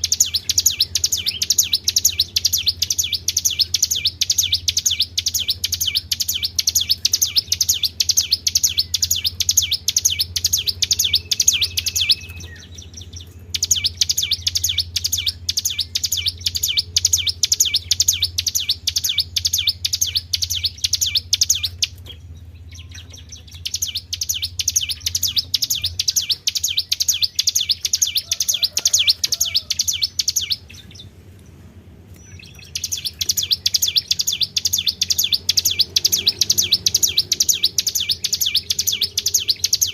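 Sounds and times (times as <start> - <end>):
songbird chirping trill: 0.0 - 39.9.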